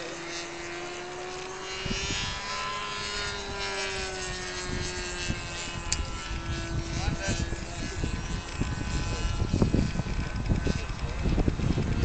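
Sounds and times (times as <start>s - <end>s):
model plane motor droning: 0.0s - 12.0s
wind rumble on microphone: 0.3s - 12.0s.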